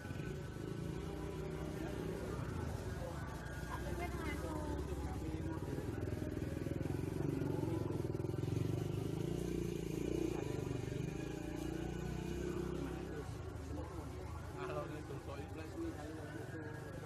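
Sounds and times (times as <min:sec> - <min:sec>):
engine running with rapid pulsing: 0:00.0 - 0:17.0.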